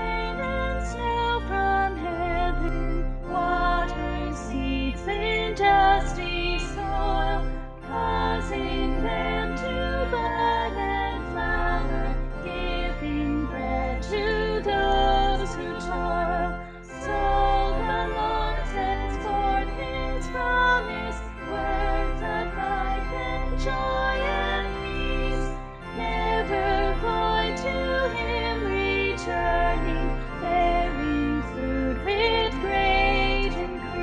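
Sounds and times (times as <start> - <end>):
steady bass notes: 0.0 - 34.0
voices singing a hymn: 0.0 - 34.0.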